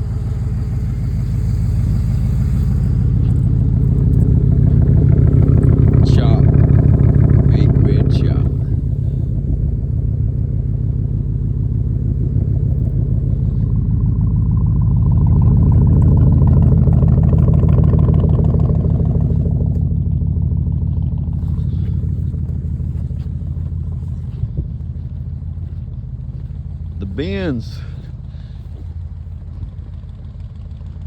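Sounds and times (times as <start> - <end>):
truck engine low rumble: 0.0 - 31.0.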